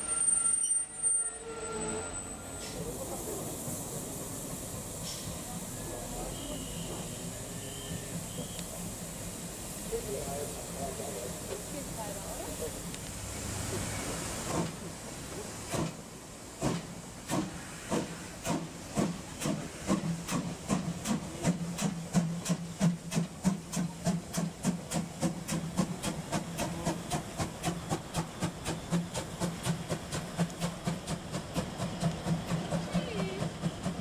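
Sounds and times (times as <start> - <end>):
steam hissing: 2.2 - 34.0
steam locomotive exhaust chuffs: 2.4 - 34.0.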